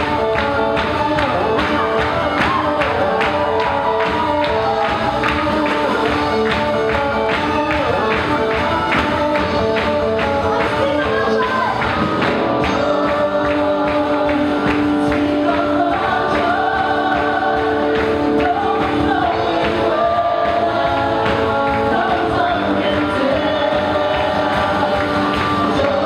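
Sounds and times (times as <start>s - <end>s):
group singing worship song: 0.0s - 9.8s, 10.6s - 26.0s
instrumental accompaniment with beat: 0.0s - 26.0s.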